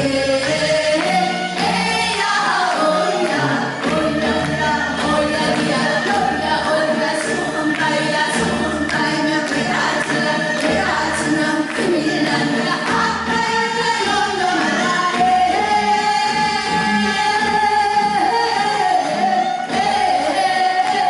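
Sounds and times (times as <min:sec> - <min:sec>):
women singing folk song: 0:00.0 - 0:21.0.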